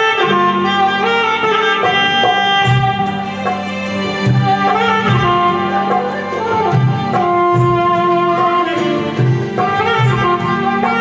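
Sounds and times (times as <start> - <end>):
low beat: 0.0 - 11.0
saxophone melody: 0.0 - 11.0.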